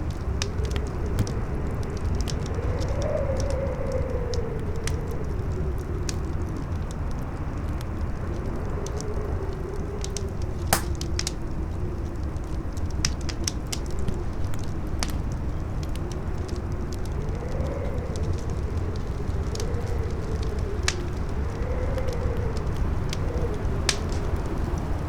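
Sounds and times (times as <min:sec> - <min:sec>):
campfire crackling and popping: 0:00.0 - 0:25.0
howling wind: 0:00.0 - 0:25.0
low wind rumble: 0:00.0 - 0:25.0.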